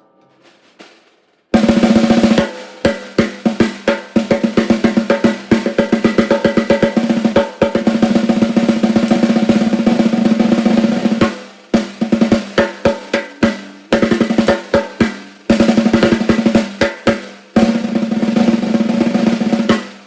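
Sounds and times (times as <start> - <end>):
snare drum fast strokes and roll: 1.6 - 20.0.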